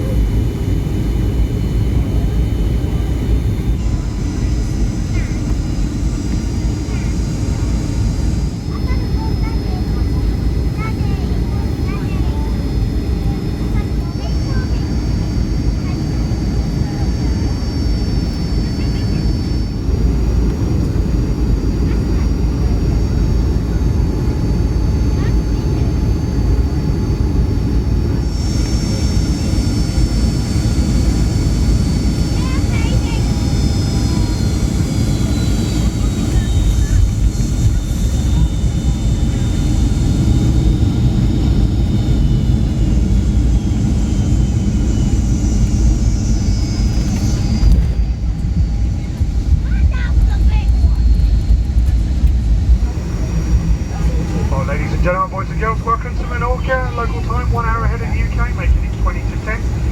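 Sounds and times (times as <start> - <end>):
airplane cabin engine rumble: 0.0 - 59.9
faint high whine: 1.4 - 59.9.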